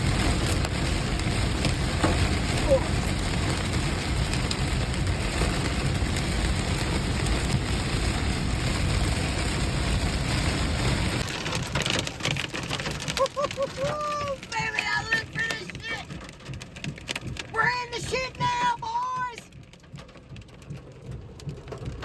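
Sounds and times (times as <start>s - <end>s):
heavy rain on a vehicle: 0.0s - 22.0s
low road rumble: 0.0s - 22.0s.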